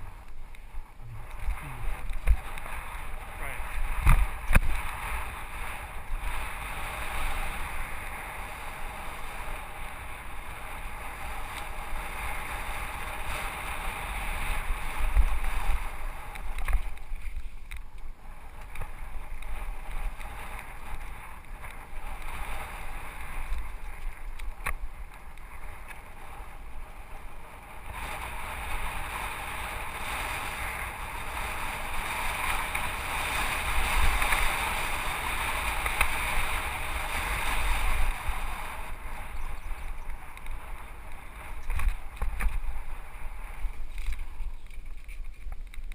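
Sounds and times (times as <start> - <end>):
bike rattling: 0.0 - 45.9
wind rushing over camera: 0.0 - 45.9.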